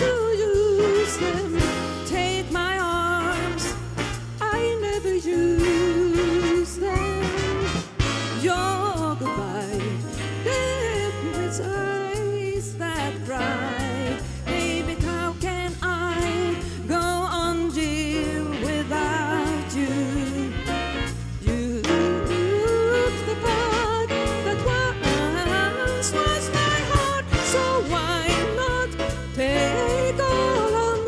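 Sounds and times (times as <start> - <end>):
woman singing with vibrato: 0.0 - 3.8, 4.4 - 20.8, 21.4 - 31.0
swing jazz band: 0.0 - 31.0.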